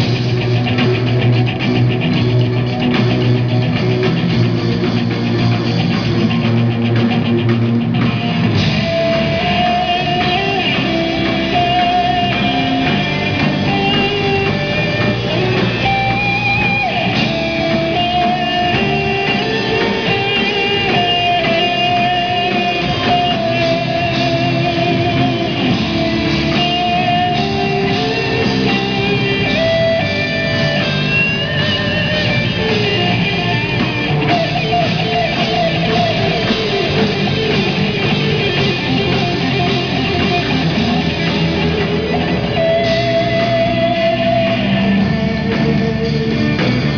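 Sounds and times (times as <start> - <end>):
drum kit: 0.0 - 46.9
electric guitars: 0.0 - 46.9
keyboard: 0.0 - 46.9.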